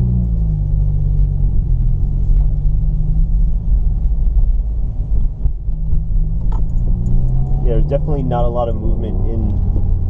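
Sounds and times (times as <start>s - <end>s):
car engine rumble: 0.0s - 10.0s.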